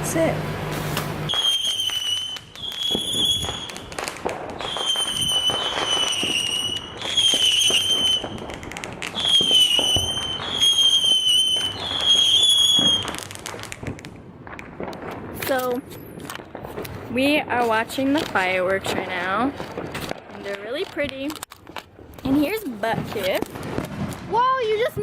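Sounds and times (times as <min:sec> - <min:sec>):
fireworks crackling pops: 0:00.2 - 0:25.0
whistling fireworks: 0:00.9 - 0:21.2.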